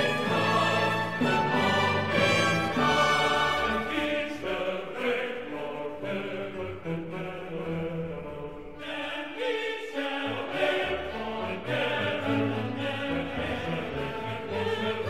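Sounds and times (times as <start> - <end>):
choir with orchestra: 0.0 - 15.0.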